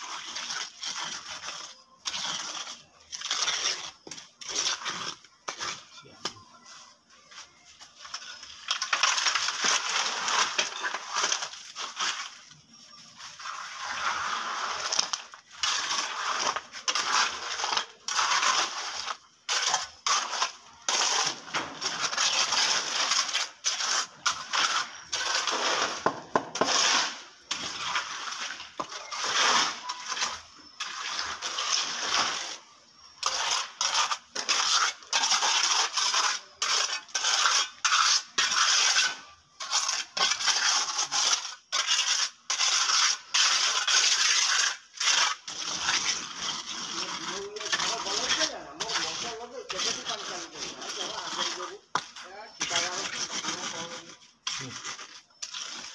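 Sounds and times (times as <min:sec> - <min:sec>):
trowel scraping wet cement: 0:00.0 - 0:55.9.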